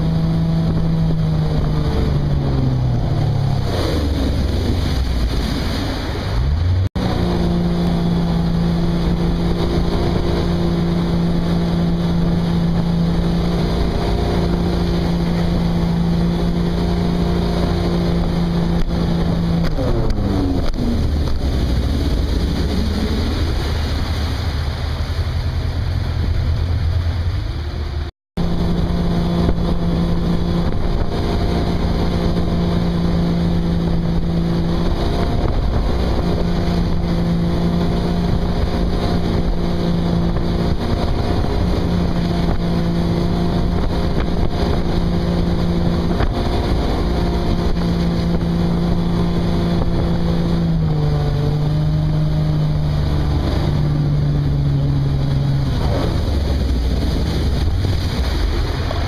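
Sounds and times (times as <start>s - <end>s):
motorboat engine running: 0.0s - 59.0s
wake water rushing: 0.0s - 59.0s
wind: 0.0s - 59.0s.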